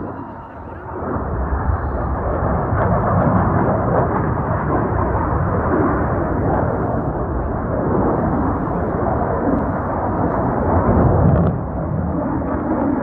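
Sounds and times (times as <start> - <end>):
jets rumbling overhead: 0.0 - 13.0.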